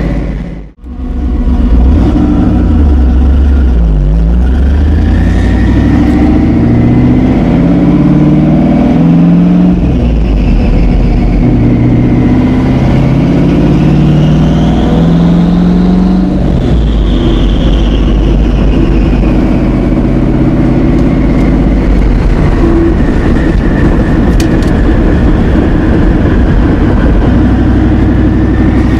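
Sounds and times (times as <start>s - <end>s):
car engine running: 0.0s - 28.9s
high turbo whine: 0.0s - 28.9s.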